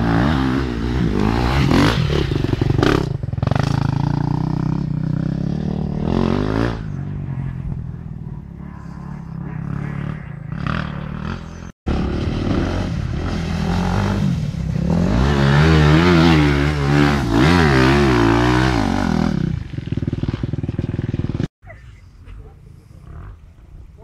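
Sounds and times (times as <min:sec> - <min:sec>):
dirt bike engine revving: 0:00.0 - 0:21.5.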